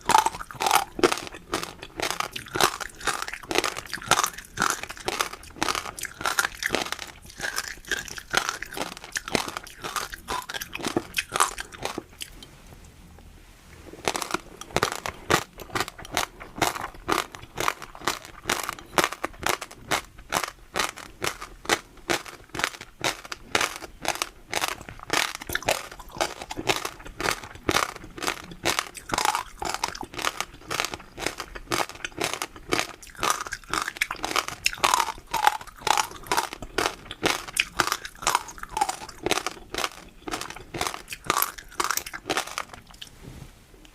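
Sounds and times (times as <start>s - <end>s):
chewing crunchy food: 0.0s - 12.5s, 13.9s - 43.1s.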